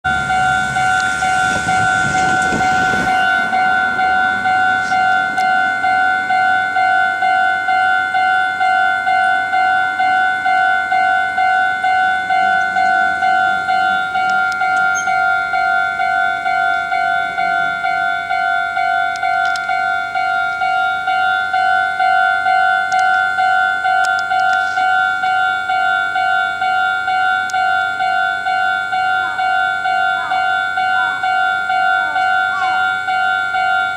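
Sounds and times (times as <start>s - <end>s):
level-crossing warning bell: 0.0s - 33.9s.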